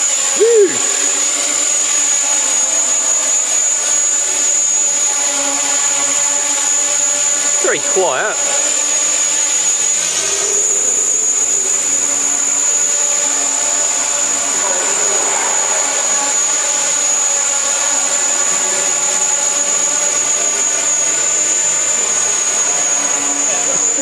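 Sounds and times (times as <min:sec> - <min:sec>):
drone propellers whirring: 0:00.0 - 0:24.0
high-pitched whine: 0:00.0 - 0:24.0.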